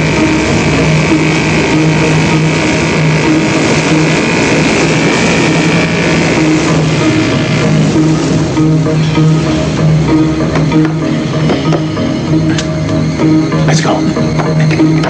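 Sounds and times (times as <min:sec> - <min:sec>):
film music: 0:00.0 - 0:15.0
outboard motor running: 0:00.0 - 0:15.0.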